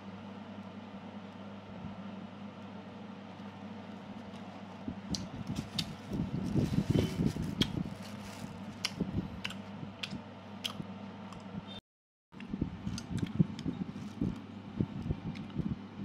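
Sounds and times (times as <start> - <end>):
steady low hum: 0.0 - 11.8, 12.4 - 16.0.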